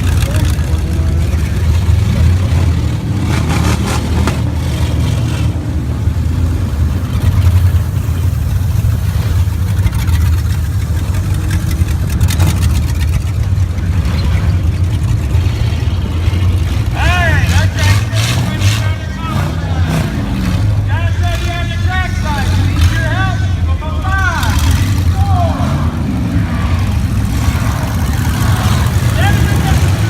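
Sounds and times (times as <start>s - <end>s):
truck engine droning: 0.0s - 30.0s.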